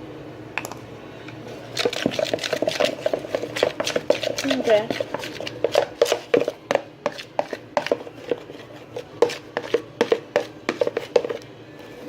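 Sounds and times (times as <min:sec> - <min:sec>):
spoon stirring thick slime in a bowl: 0:01.5 - 0:12.0.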